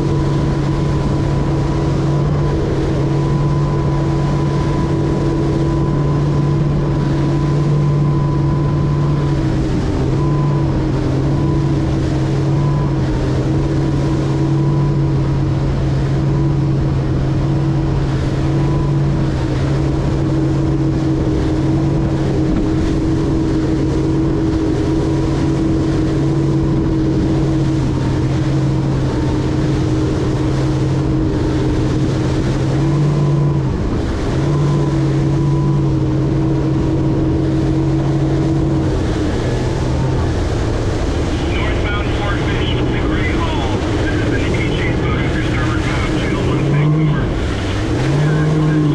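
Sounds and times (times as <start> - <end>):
outboard engine hum: 0.0 - 48.9
wind and water noise: 0.0 - 48.9.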